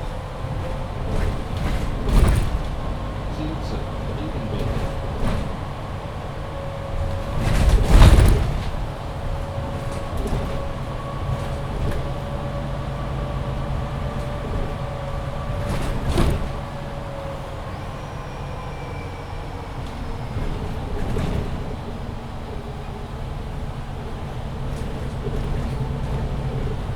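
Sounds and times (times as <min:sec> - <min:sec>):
bus drivetrain rumble: 0:00.0 - 0:26.9
bus whine: 0:00.0 - 0:26.9.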